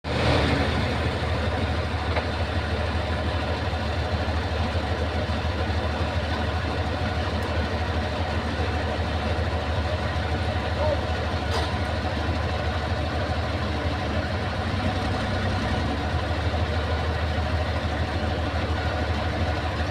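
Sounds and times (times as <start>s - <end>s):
bulldozer diesel engine running: 0.0s - 19.9s.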